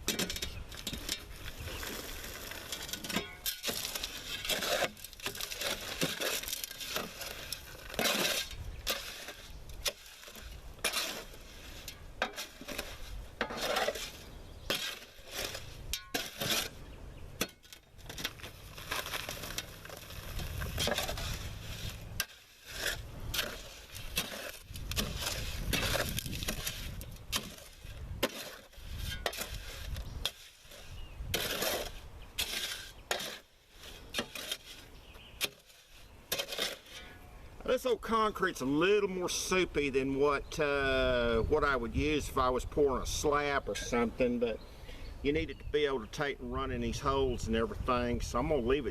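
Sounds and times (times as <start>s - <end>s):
tool scraping wet concrete: 0.0s - 44.6s.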